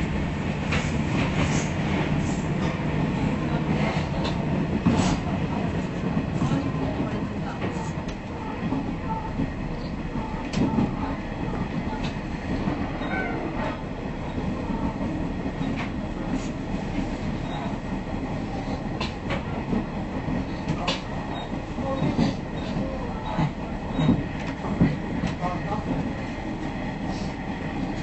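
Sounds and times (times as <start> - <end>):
train engine and rolling rumble: 0.0 - 28.0.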